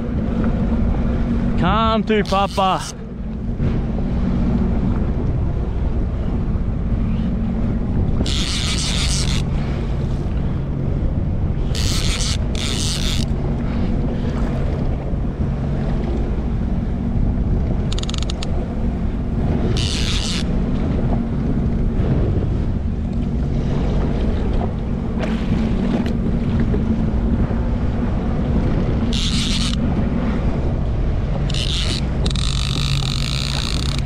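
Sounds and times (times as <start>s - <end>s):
jetski engine running: 0.0s - 34.0s
water splashing against hull: 0.0s - 34.0s
wind buffeting microphone: 0.0s - 34.0s.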